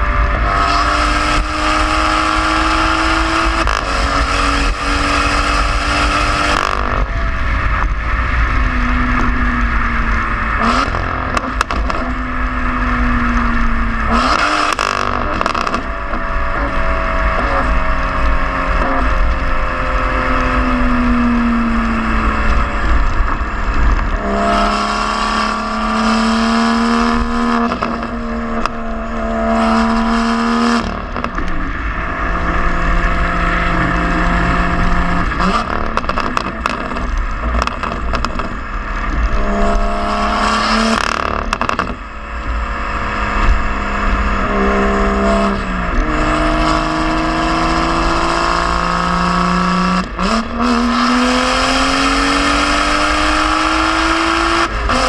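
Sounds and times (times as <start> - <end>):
car engine exhaust while driving: 0.0 - 55.0.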